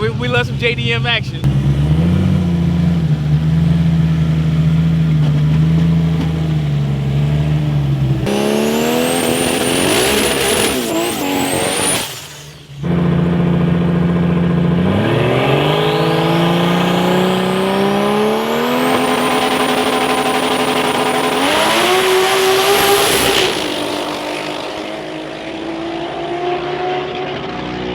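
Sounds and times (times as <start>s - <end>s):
car engine revving: 0.0s - 27.9s
turbo whine: 1.4s - 25.5s.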